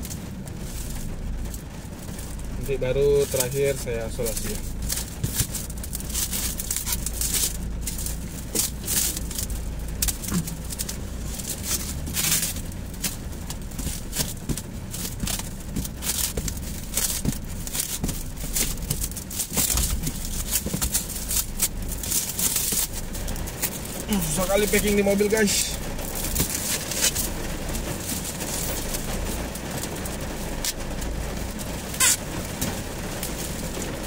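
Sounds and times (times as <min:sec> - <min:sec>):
plastic stretch film crackling: 0:00.0 - 0:34.0.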